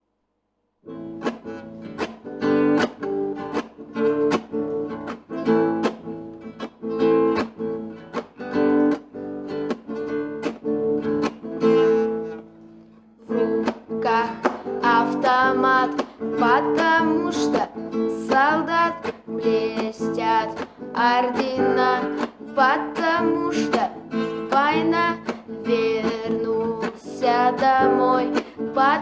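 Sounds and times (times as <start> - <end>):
acoustic guitar strumming: 0.8 - 29.0.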